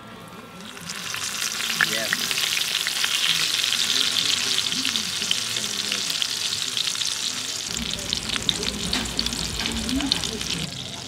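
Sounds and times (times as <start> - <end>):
steak sizzling in a skillet: 0.6 - 11.0.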